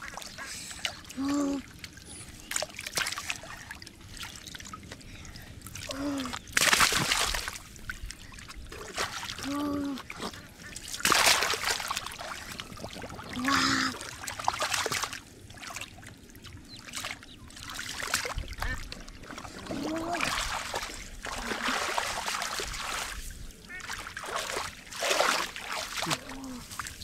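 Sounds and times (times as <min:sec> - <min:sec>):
splashing in muddy water: 0:00.0 - 0:27.0.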